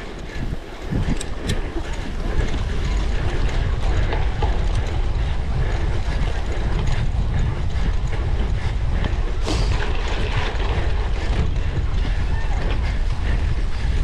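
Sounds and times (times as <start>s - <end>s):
bike chain rattling: 0.0s - 14.0s
low rumble: 0.0s - 14.0s.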